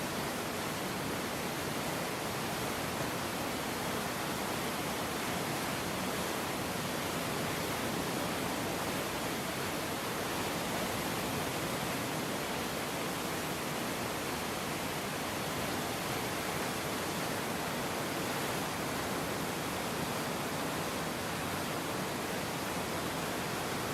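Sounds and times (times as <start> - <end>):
river rushing in flood: 0.0 - 23.9.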